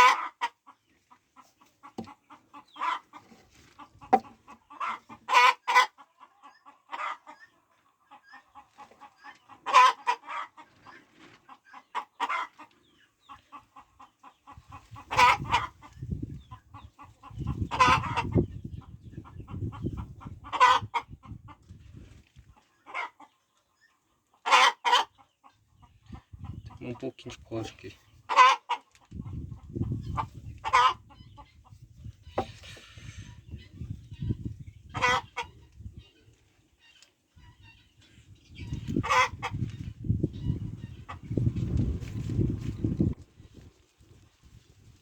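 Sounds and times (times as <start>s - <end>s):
chickens clucking: 0.0s - 44.3s.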